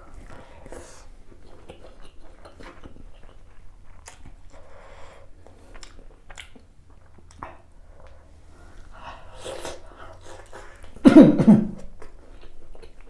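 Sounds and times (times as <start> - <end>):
person chewing food: 0.0 - 11.0, 11.8 - 13.0.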